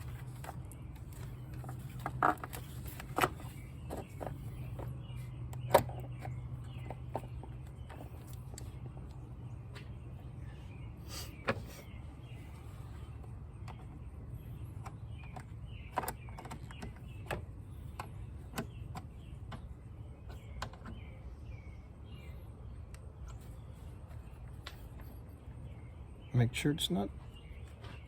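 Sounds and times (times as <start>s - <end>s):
birds chirping faintly: 0.0s - 28.0s.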